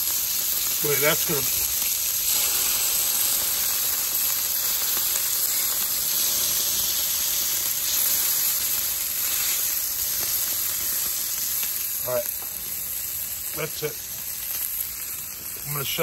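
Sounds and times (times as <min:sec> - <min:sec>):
steak sizzling on grill: 0:00.0 - 0:16.0.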